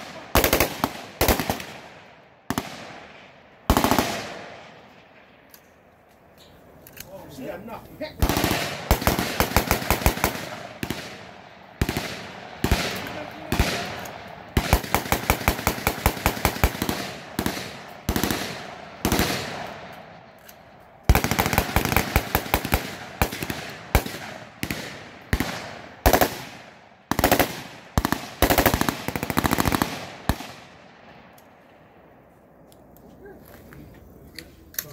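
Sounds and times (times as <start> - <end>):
rifle shots echoing: 0.0 - 5.5, 8.2 - 32.2.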